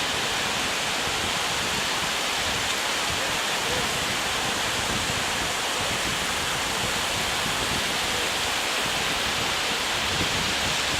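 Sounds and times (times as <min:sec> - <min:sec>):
sea surf rushing on beach: 0:00.0 - 0:10.9.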